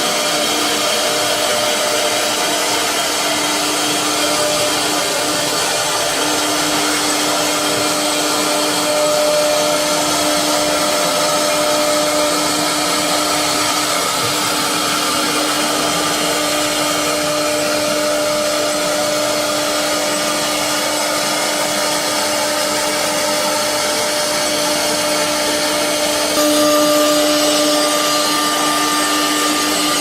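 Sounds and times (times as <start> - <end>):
wood router machine whirring: 0.0 - 30.0.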